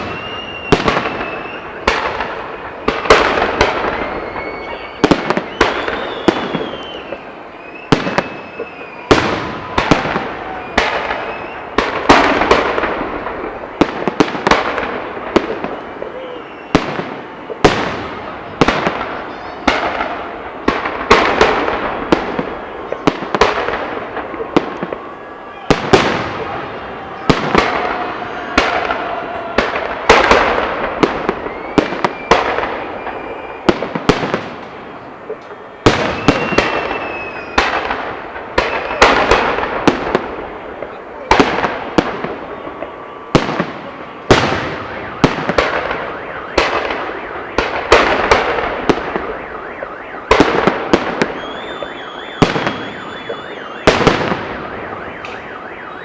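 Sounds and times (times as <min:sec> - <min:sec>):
fireworks bursting: 0:00.0 - 0:56.0
whistling fireworks: 0:00.0 - 0:56.0.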